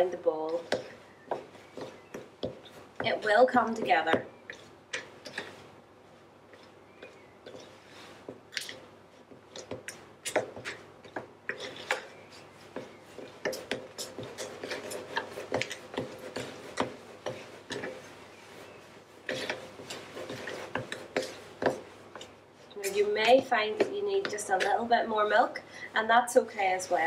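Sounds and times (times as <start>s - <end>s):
knife scraping a mixing bowl: 0.0s - 5.7s, 6.5s - 24.8s.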